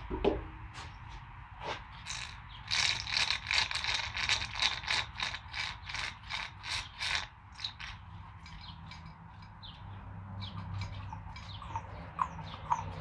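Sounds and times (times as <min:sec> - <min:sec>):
hand pump strokes: 0:01.6 - 0:13.0.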